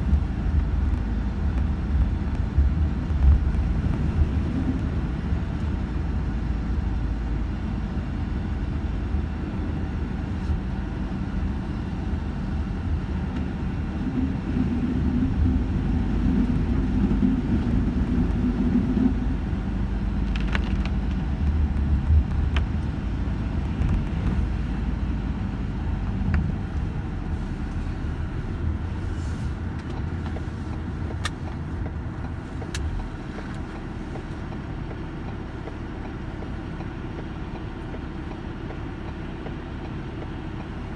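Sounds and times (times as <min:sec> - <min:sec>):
vehicle engine rumbling: 0:00.0 - 0:40.9.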